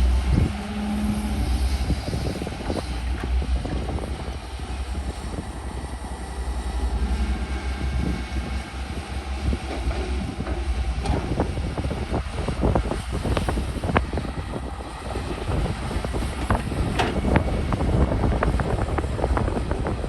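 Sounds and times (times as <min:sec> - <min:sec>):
excavator diesel engine rumbling: 0:00.0 - 0:20.0
wind buffeting microphone: 0:00.0 - 0:20.0.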